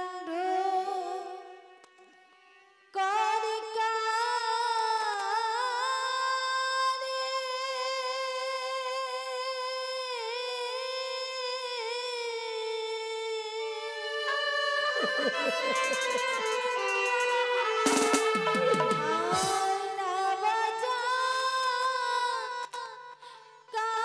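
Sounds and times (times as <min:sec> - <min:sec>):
high wordless singing voice: 0:03.0 - 0:24.0.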